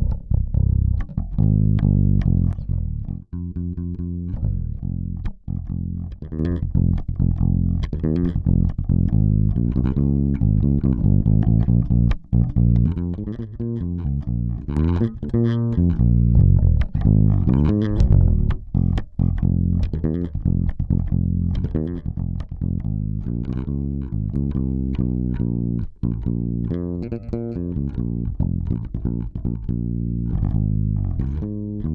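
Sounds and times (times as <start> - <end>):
guitar: 0.0 - 31.9
plucked bass line: 0.0 - 31.9.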